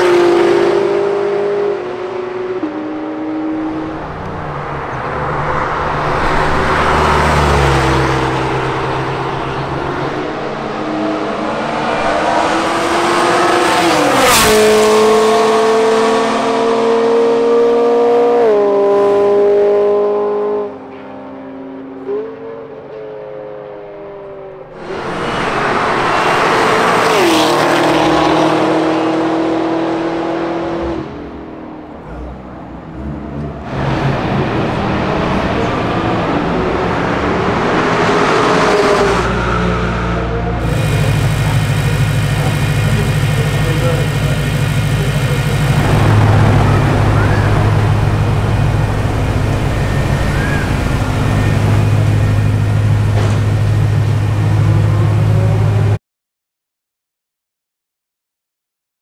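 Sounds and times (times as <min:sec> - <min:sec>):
sports cars passing at speed: 0:00.0 - 0:56.0.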